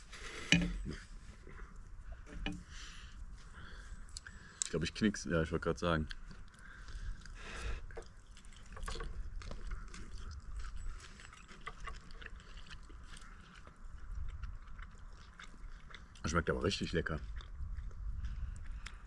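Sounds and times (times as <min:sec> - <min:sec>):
chewing: 0:00.0 - 0:05.0, 0:05.9 - 0:19.0.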